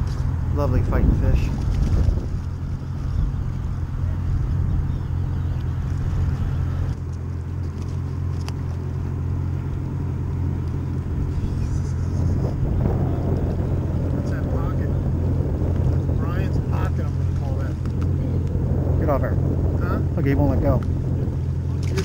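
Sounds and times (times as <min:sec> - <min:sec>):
outboard motor idling: 0:00.0 - 0:22.0.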